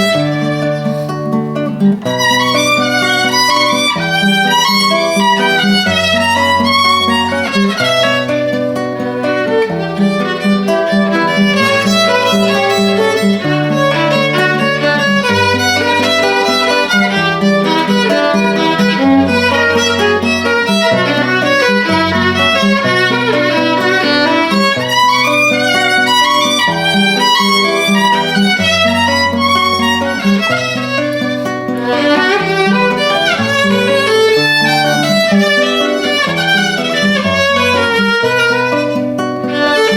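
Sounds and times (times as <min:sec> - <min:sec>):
violin melody: 0:00.0 - 0:39.9.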